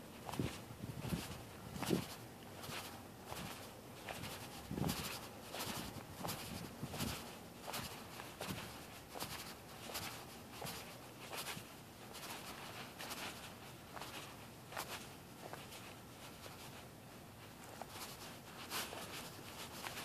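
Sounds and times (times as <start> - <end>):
faint footsteps on sidewalk: 0.0 - 20.0.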